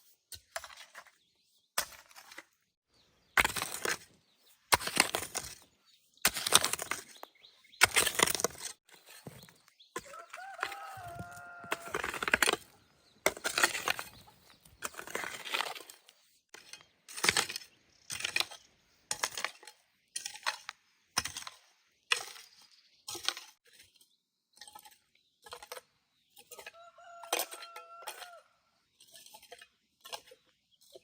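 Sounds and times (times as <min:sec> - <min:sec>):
hand tool scraping cement: 0:00.0 - 0:02.7, 0:03.4 - 0:28.3, 0:28.9 - 0:31.0.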